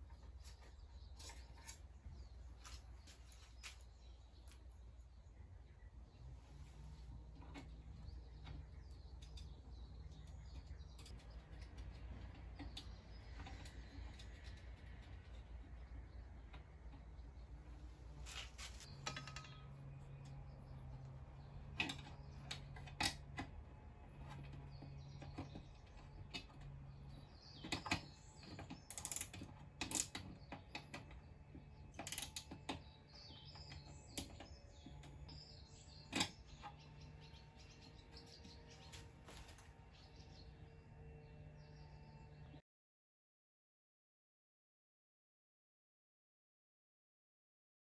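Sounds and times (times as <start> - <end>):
faint birds chirping: 0.0 - 42.6.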